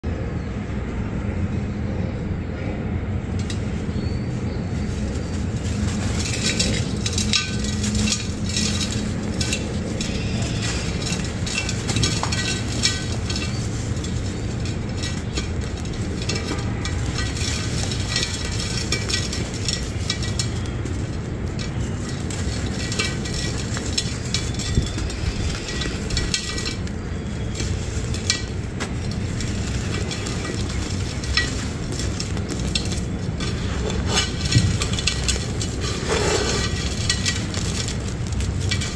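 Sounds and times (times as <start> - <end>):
crumbling block gritty crunching: 5.0 - 38.9.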